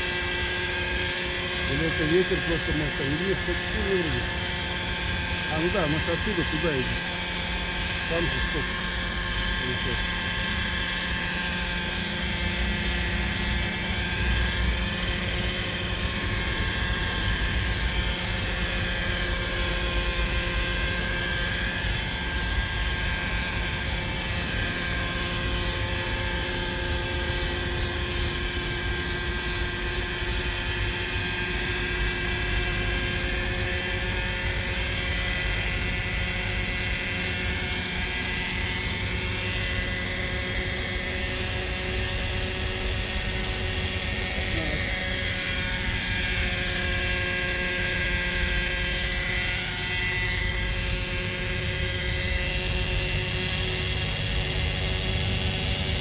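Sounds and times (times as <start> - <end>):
model helicopter whine: 0.0 - 56.0.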